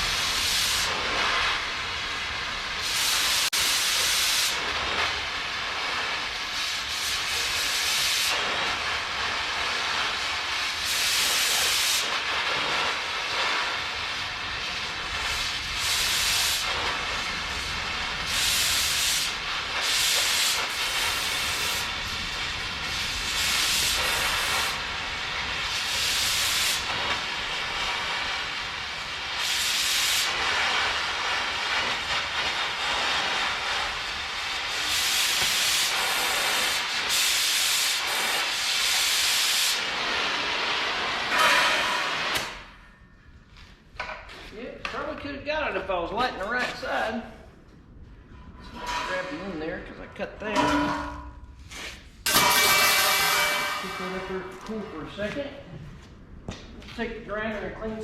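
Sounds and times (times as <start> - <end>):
cutting torch hissing: 0.0 - 42.8, 51.6 - 55.6.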